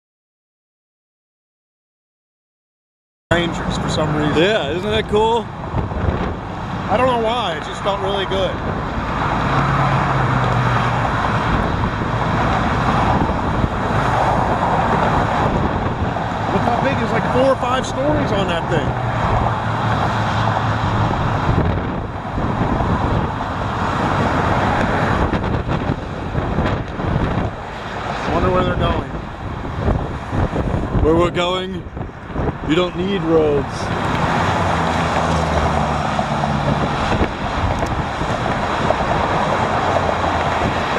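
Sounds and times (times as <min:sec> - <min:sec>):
road traffic: 0:03.3 - 0:40.9
wind on microphone: 0:03.6 - 0:40.9.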